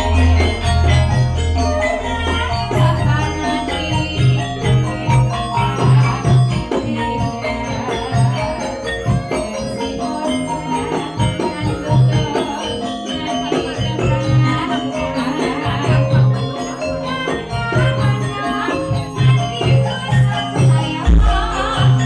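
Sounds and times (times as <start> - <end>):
gamelan pitched percussion: 0.0 - 22.0.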